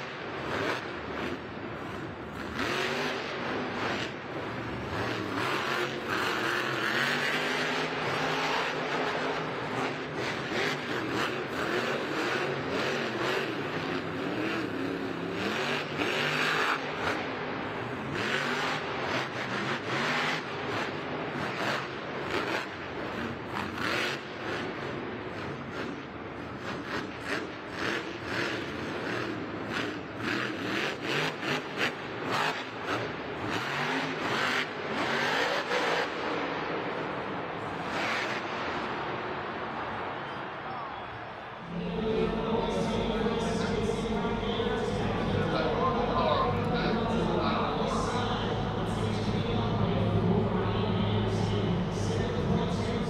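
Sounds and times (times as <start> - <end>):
monster truck engine revving: 0.0 - 40.2, 41.6 - 53.0.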